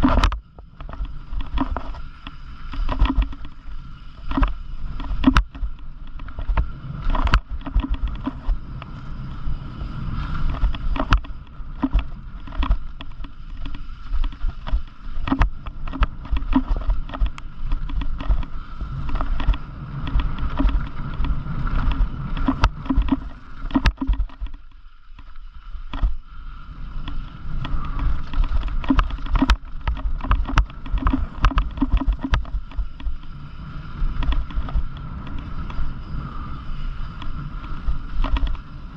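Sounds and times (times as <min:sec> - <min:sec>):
bicycle tyres rumbling over ground: 0:00.0 - 0:38.9
bike knocking and rattling: 0:00.0 - 0:38.9.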